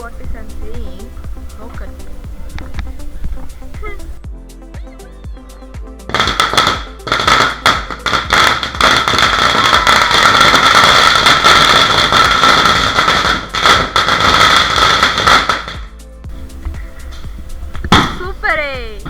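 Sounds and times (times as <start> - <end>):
firecrackers crackling: 0.0 - 4.2, 6.0 - 19.0.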